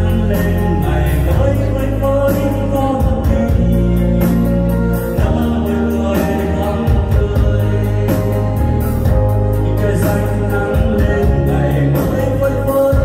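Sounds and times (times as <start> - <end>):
bass line and beat: 0.0 - 13.0
person singing over backing track: 0.0 - 13.0.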